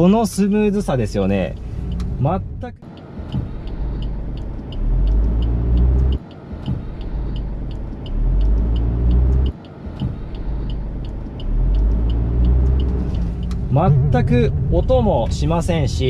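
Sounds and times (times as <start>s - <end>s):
car engine restarting: 0.0s - 16.0s
turn signal ticking: 0.0s - 16.0s.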